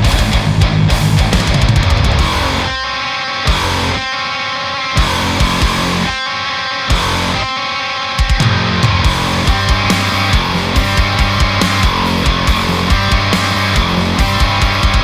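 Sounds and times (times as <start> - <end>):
programmed drums: 0.0 - 4.1, 5.0 - 6.2, 8.2 - 15.0
distorted electric guitars: 0.0 - 15.0.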